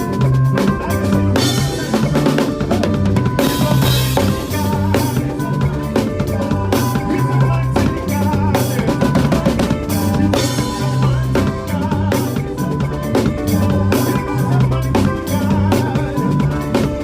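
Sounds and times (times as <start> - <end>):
bass guitar: 0.0 - 17.0
drum kit playing a fast groove: 0.0 - 17.0.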